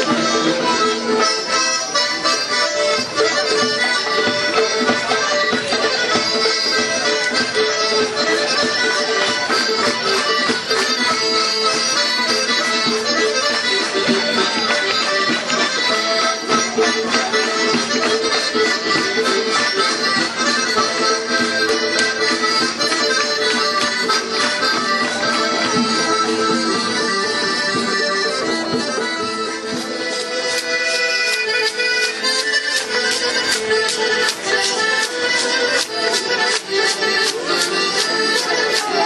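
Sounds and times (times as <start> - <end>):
accordion dance music: 0.0 - 39.0.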